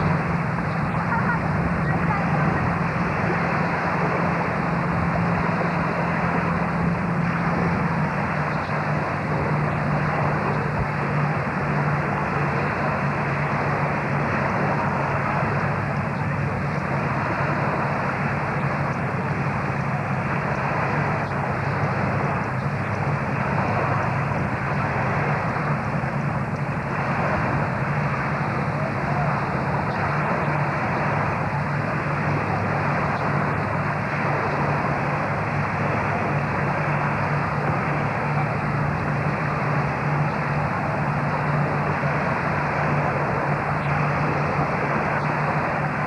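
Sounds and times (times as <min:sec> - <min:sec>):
boat engine humming: 0:00.0 - 0:46.0
wind and water rushing: 0:00.0 - 0:46.0.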